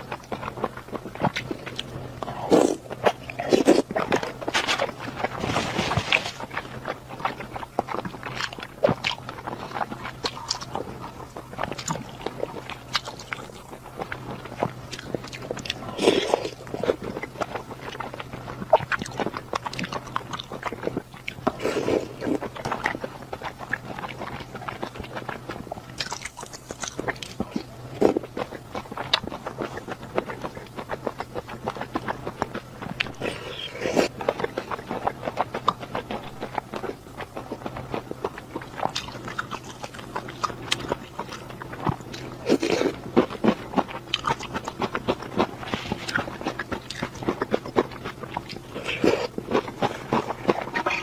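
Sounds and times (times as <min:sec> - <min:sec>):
chewing with wet mouth clicks: 0:00.0 - 0:51.0
steady low hum: 0:00.0 - 0:51.0.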